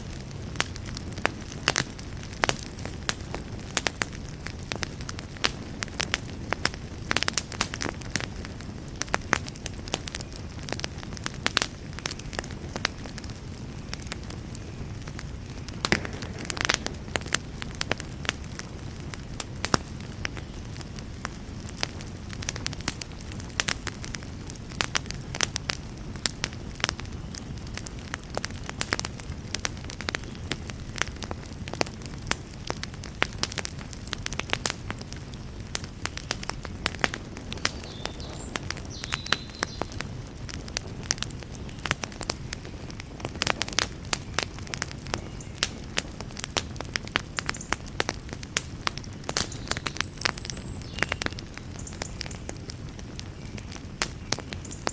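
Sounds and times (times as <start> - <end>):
fire crackling and popping: 0.0 - 54.9
low rumble of flames: 0.0 - 54.9.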